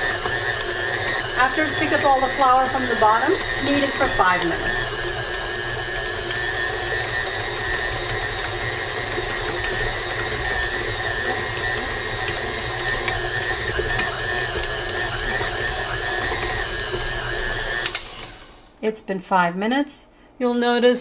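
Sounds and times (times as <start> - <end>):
stand mixer motor hum and whine: 0.0 - 18.8.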